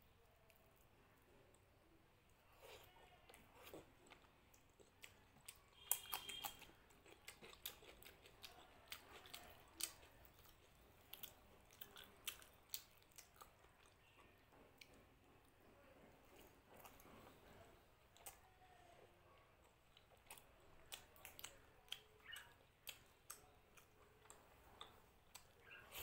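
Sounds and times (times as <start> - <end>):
person chewing with wet smacks: 2.5 - 15.4, 16.2 - 18.7, 19.6 - 26.0.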